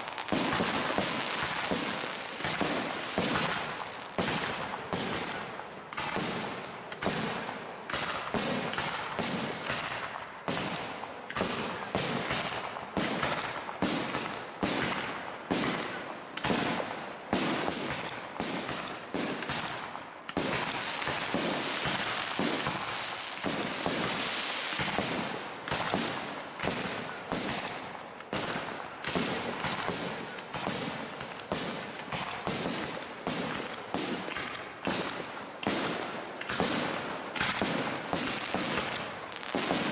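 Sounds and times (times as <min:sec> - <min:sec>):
firework bangs: 0:00.0 - 0:39.9
hissing crackle of fireworks: 0:00.0 - 0:39.9.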